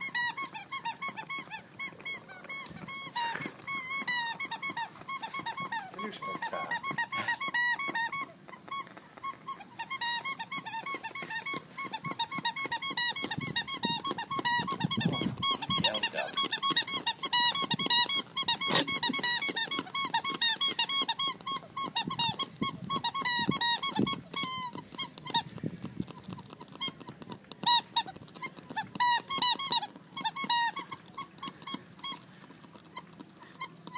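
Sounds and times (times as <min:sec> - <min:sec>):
squeaky toy squeaks: 0:00.0 - 0:33.9.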